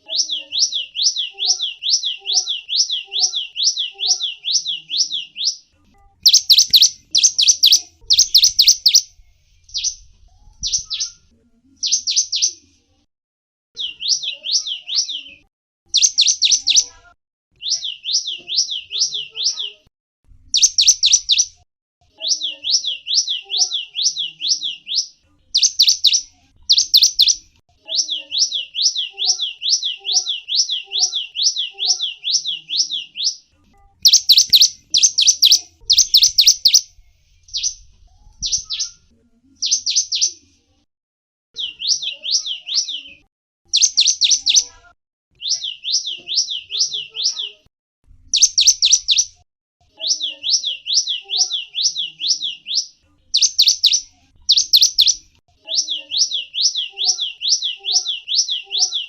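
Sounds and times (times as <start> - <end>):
songbird singing: 0.0 - 12.6, 13.8 - 19.9, 20.5 - 21.6, 22.2 - 40.4, 41.6 - 47.5, 48.4 - 49.3, 50.0 - 59.0.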